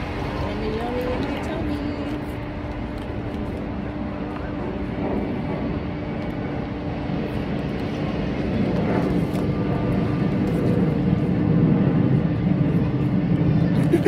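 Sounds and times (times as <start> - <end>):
engine rumbling with hum: 0.0 - 14.0.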